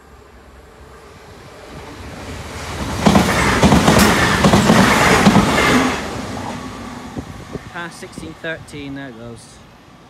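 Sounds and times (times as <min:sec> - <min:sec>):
train passing: 0:00.0 - 0:10.0.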